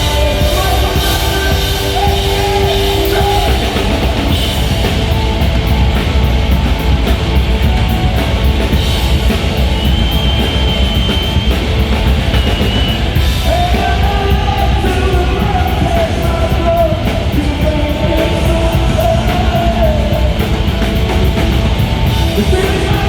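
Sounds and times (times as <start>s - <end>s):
driving drum kit: 0.0s - 23.0s
rock band playing live: 0.0s - 23.0s.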